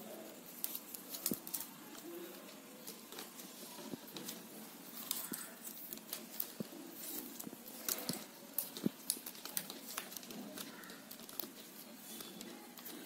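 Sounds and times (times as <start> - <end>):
plastic strands clicking and rustling: 0.0 - 13.0.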